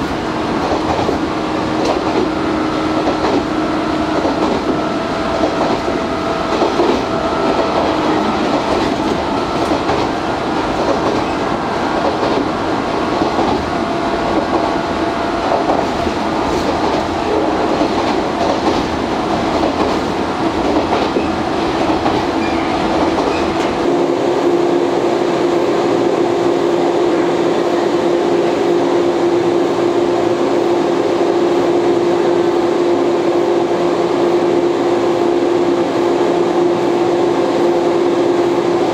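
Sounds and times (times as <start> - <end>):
steady train hum: 0.0 - 38.9
train motor and running noise: 0.0 - 38.9.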